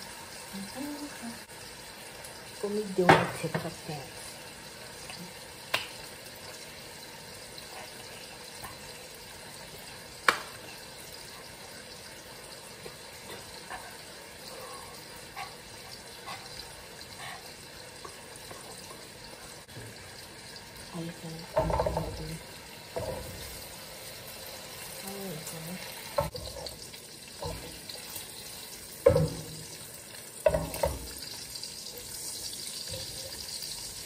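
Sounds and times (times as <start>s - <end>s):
bacon sizzling in a pan: 0.0s - 34.0s.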